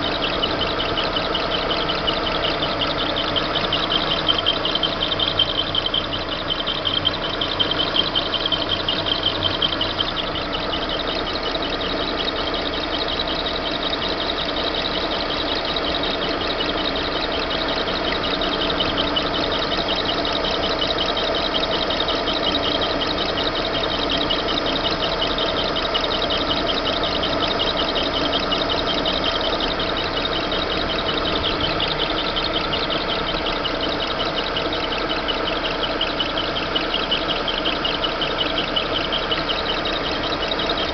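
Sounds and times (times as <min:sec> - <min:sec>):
car engine idling: 0:00.0 - 0:40.9
drive belt chirping: 0:00.0 - 0:40.9.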